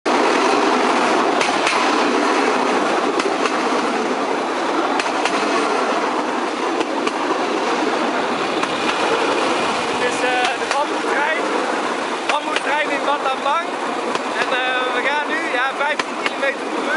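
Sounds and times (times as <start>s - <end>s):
train rattle and drone: 0.0s - 16.9s
wheels clacking over rail joints: 0.1s - 16.9s.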